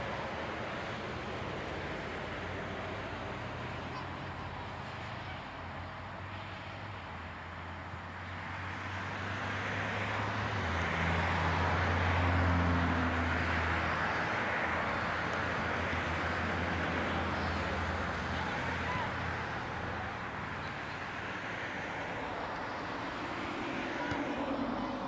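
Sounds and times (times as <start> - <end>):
passing motor vehicle: 0.0 - 25.0.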